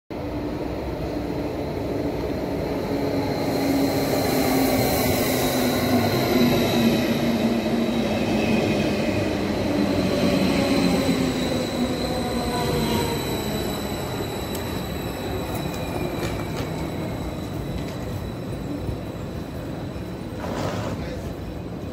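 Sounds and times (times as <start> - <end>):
electric train passing: 0.2 - 21.9.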